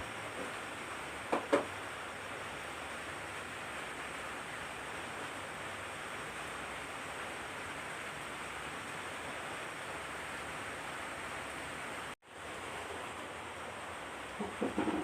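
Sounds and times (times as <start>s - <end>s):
soft hiss of air and foliage: 0.0s - 15.0s.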